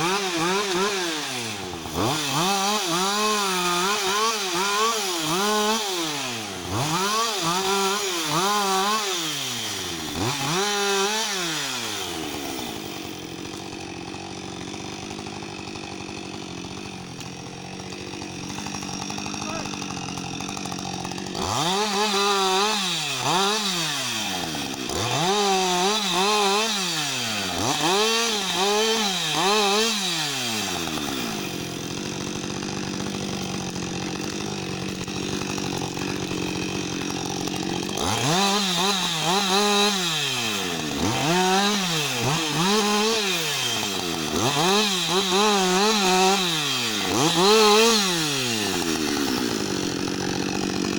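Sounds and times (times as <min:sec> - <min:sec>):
chainsaw revving through log: 0:00.0 - 0:50.9.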